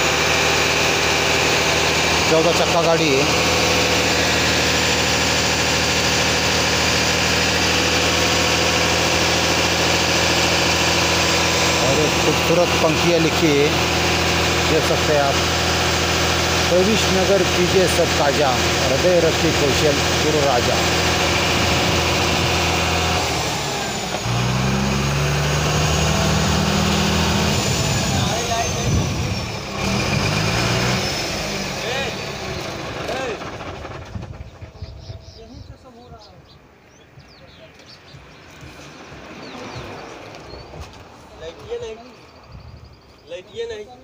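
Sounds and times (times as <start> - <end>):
diesel truck engine idling: 0.0 - 42.4.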